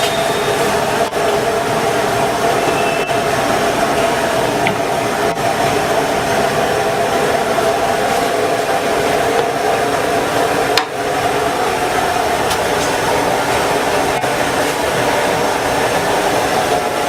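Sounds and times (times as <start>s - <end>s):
loud rushing noise with hum: 0.0s - 17.0s.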